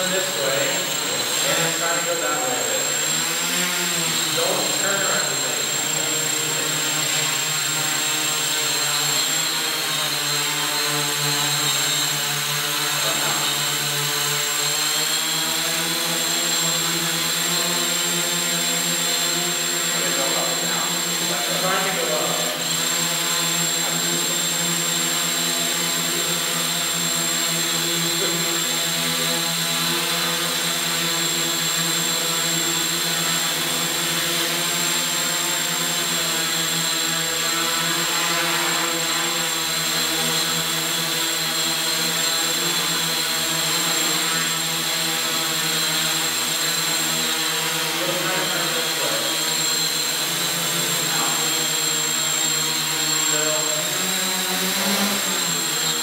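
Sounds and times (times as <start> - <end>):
quadcopter motors whirring: 0.0 - 56.0.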